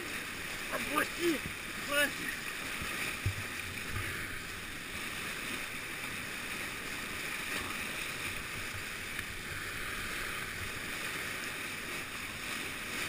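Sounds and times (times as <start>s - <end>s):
whitewater rushing over a weir: 0.0s - 13.0s.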